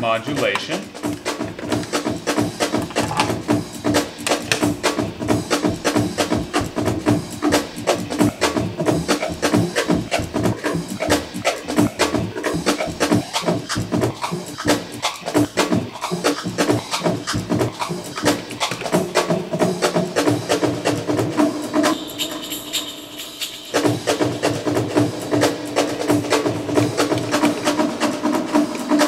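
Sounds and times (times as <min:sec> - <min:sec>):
looped drum breakbeat: 0:00.0 - 0:29.0.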